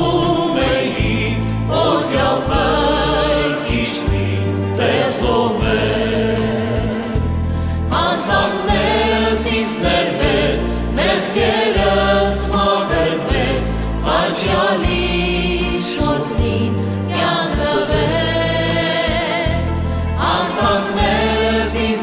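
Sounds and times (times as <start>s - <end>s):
woman and men singing: 0.0s - 7.3s, 7.9s - 22.0s
keyboard: 0.0s - 22.0s.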